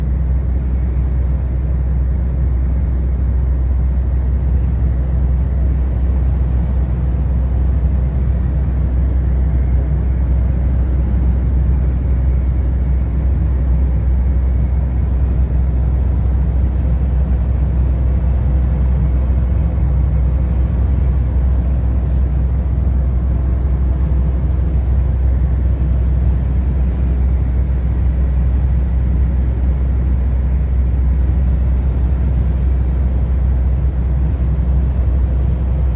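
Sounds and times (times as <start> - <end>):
truck driving rumble: 0.0 - 35.9.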